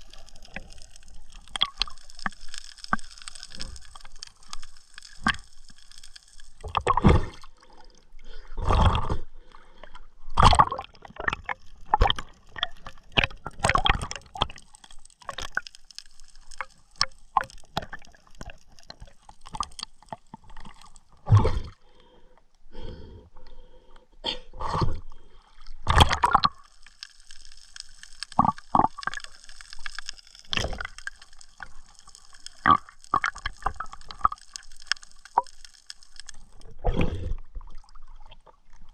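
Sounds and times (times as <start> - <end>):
water gurgling and sloshing: 0.0 - 22.2, 24.5 - 38.9.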